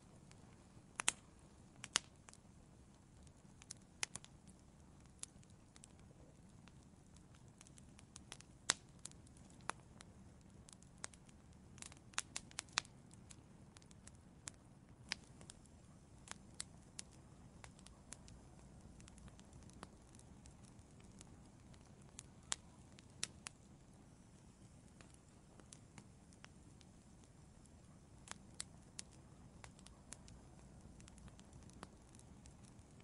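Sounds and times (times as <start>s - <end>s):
firewood crackling: 0.0s - 33.0s.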